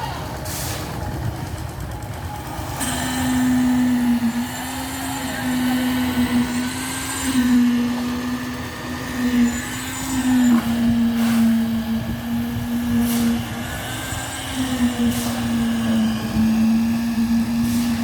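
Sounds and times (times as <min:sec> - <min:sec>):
machinery humming: 0:00.0 - 0:18.0
rumbling background: 0:00.0 - 0:18.0.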